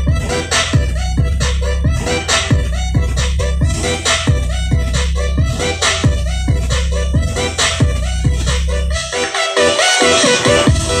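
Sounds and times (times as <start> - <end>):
deep bass kicks: 0.0 - 9.0, 10.5 - 11.0
brassy lead melody: 0.0 - 11.0.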